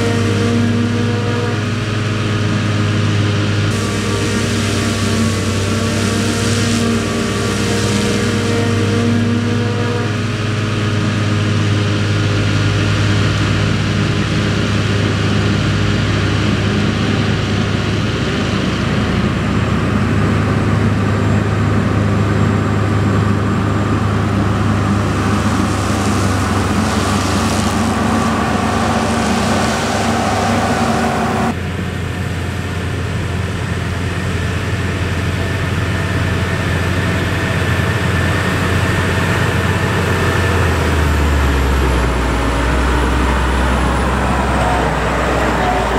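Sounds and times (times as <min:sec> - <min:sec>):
engine steady note: 0:00.0 - 0:45.9
heavy diesel machinery running: 0:00.0 - 0:45.9.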